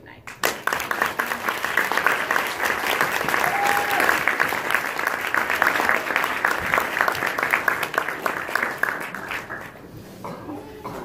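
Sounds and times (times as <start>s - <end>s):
audience applauding: 0.3s - 10.0s.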